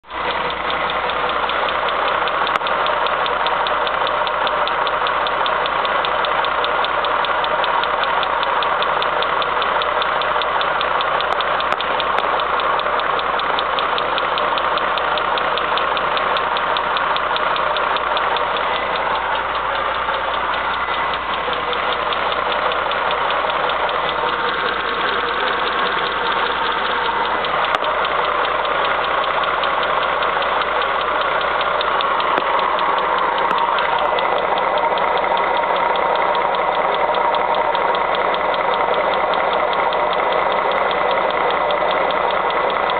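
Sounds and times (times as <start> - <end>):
car engine idling with fast knock: 0.0 - 42.9.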